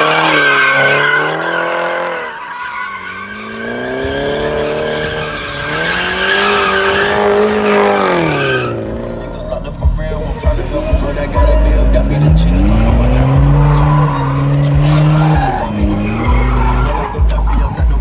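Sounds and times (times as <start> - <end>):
car engine revving: 0.0 - 18.0
tyres squealing: 0.0 - 18.0.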